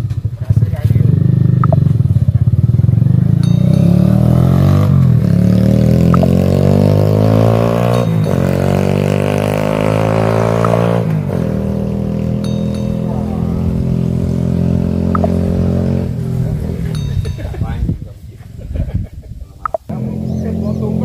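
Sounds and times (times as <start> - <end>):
quad bike engine accelerating: 0.0 - 17.3, 19.9 - 21.0.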